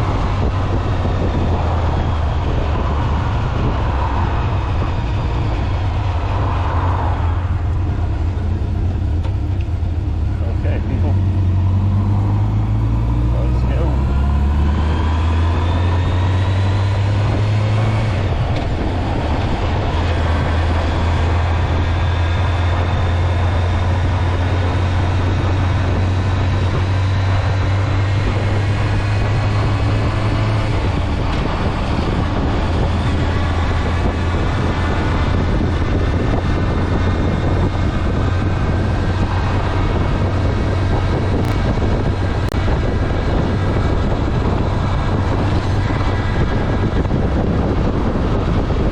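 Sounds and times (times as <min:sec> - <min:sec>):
road and wind noise: 0:00.0 - 0:48.9.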